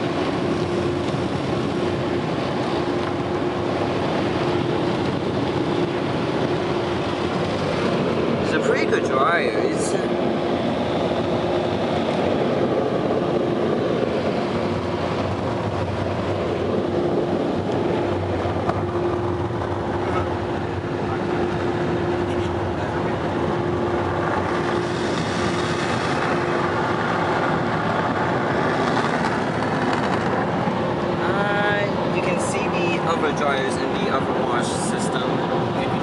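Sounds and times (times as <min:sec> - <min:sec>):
air dryers blowing: 0:00.0 - 0:36.0
steady hum: 0:00.0 - 0:36.0.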